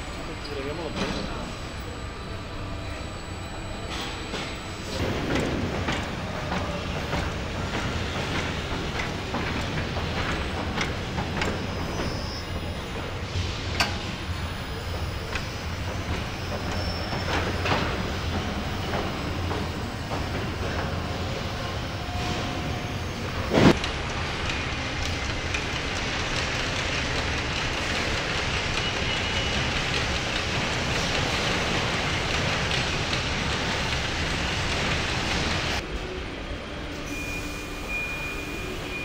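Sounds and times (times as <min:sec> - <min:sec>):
machinery hum: 0:00.0 - 0:39.0.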